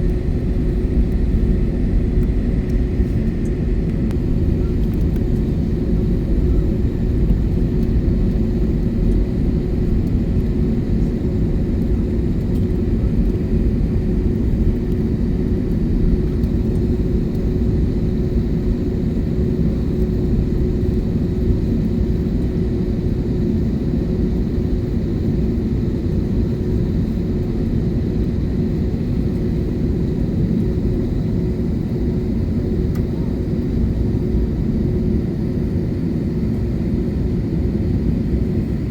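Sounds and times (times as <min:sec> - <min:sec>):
airliner cabin rumble: 0:00.0 - 0:38.9
constant cabin hum: 0:00.0 - 0:38.9.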